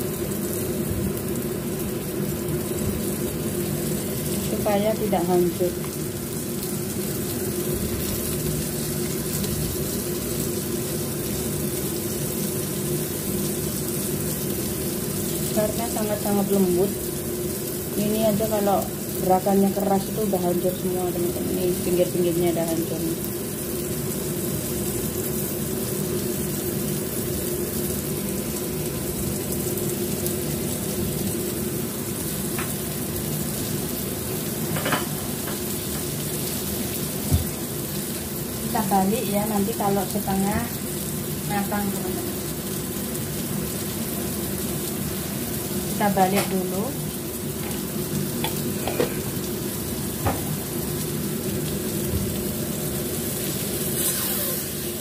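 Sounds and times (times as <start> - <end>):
tofu sizzling in oil: 0.0 - 55.0.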